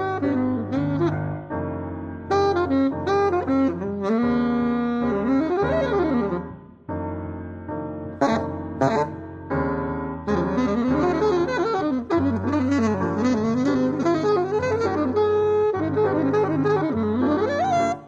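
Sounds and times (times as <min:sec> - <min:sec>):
improvised saxophone line: 0:00.0 - 0:01.4, 0:02.3 - 0:06.6, 0:08.2 - 0:09.2, 0:10.2 - 0:18.0
piano chords: 0:00.0 - 0:18.0.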